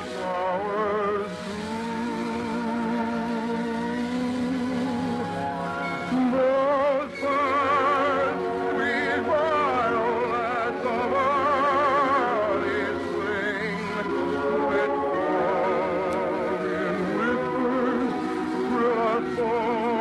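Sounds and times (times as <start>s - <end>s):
operatic voice singing: 0.0s - 20.0s
orchestra playing: 0.0s - 20.0s.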